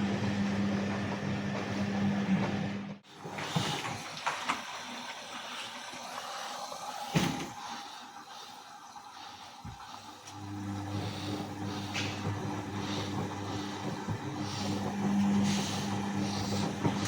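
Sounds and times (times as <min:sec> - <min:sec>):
washing machine drum motor: 0:00.0 - 0:17.0
water sloshing and trickling: 0:03.0 - 0:17.0.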